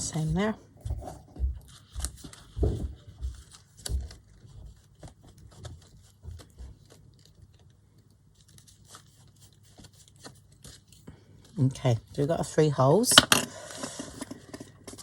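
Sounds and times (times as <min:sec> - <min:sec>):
paper rustling: 0:00.0 - 0:12.5.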